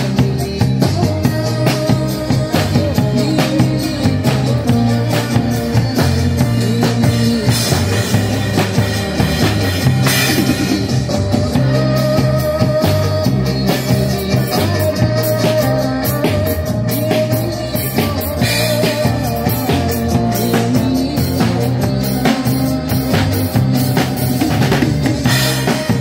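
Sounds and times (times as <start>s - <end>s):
bass guitar: 0.0s - 26.0s
drum kit beat: 0.0s - 26.0s
electric guitar: 0.0s - 26.0s.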